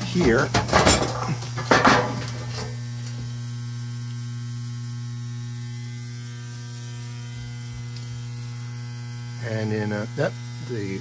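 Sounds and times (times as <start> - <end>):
water pump humming: 0.0 - 11.0.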